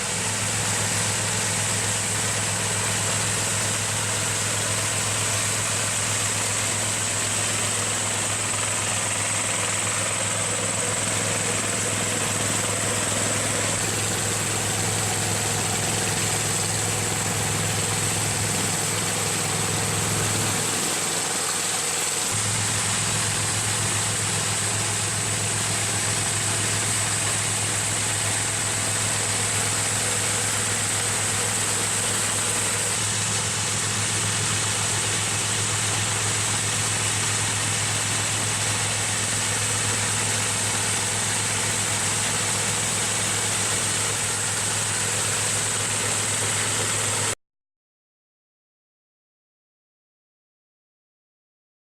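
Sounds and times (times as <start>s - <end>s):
combine harvester engine humming: 0.0s - 47.4s.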